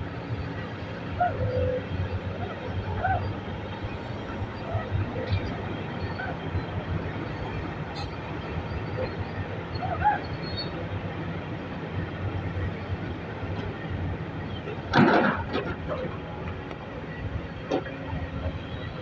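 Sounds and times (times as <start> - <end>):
heavy diesel engines rumbling: 0.0 - 19.0.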